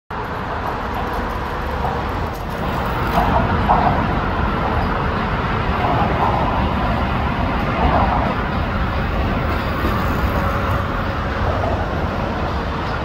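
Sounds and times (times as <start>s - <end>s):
road traffic noise: 0.1s - 13.0s
subway train rumble: 0.1s - 13.0s.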